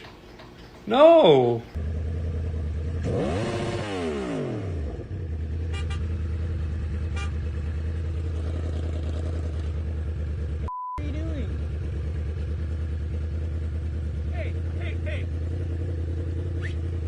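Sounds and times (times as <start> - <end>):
vehicle engine running: 1.2 - 17.0
engine revving: 1.8 - 17.0.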